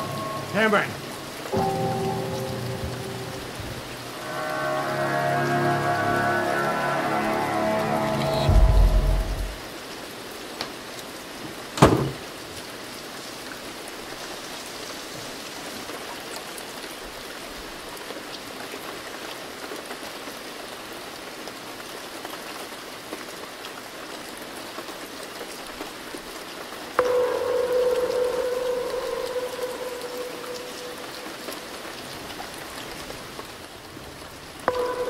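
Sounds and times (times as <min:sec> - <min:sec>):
steady rain hiss: 0:00.0 - 0:08.4, 0:09.0 - 0:35.0.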